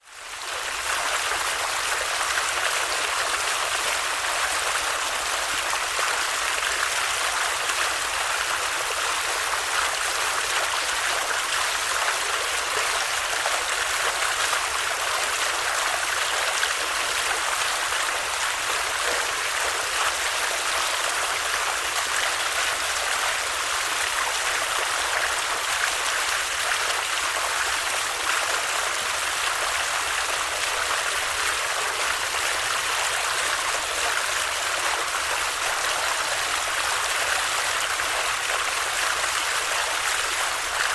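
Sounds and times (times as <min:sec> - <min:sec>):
stream of water flowing: 0:00.0 - 0:40.9.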